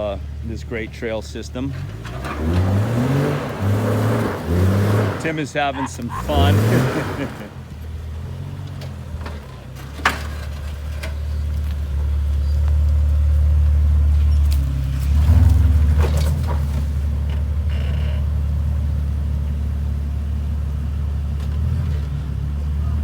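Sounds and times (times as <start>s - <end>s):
engine running under load: 0.0s - 23.0s.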